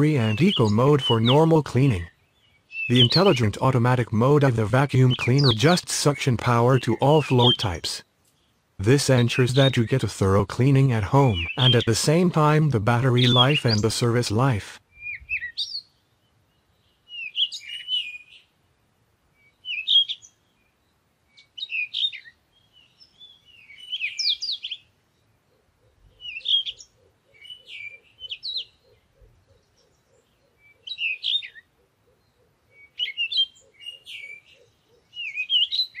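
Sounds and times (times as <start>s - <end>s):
bird chirping: 0.0s - 18.6s, 19.3s - 36.0s.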